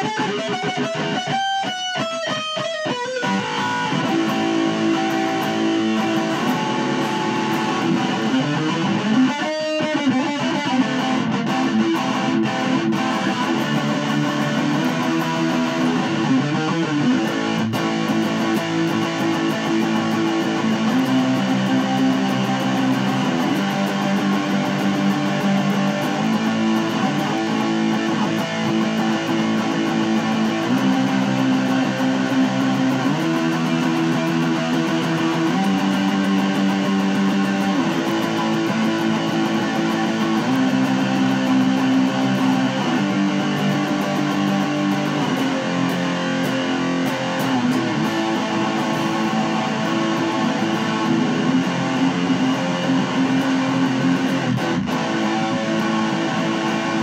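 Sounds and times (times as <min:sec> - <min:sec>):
electric guitar strumming chords: 0:00.0 - 0:57.0.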